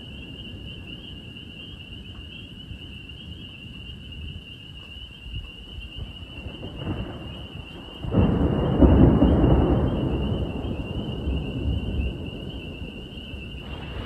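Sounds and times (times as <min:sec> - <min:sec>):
shrill night animal chorus: 0:00.0 - 0:14.0.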